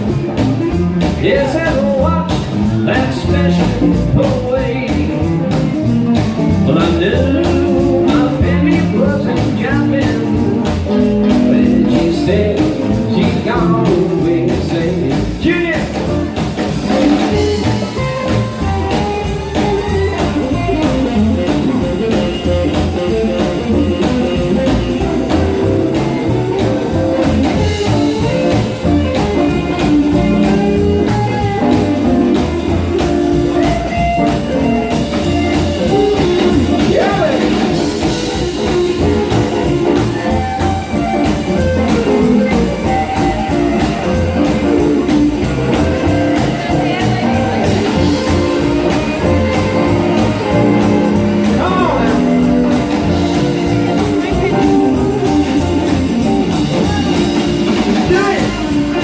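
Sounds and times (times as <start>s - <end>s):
blues band playing: 0.0s - 59.0s
electric guitar solo: 5.2s - 59.0s.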